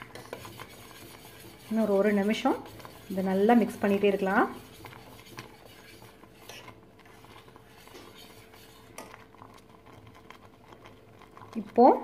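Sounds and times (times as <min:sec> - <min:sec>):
metal spoon scraping saucepan: 0:00.0 - 0:12.0.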